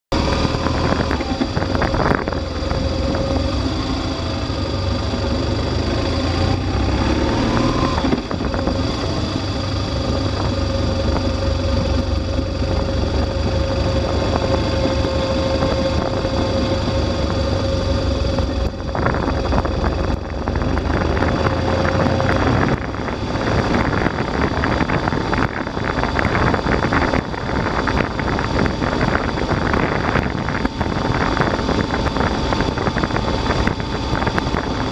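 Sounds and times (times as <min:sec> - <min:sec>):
motorcycle engine running: 0:00.1 - 0:34.9
wind rushing over microphone: 0:00.1 - 0:34.9.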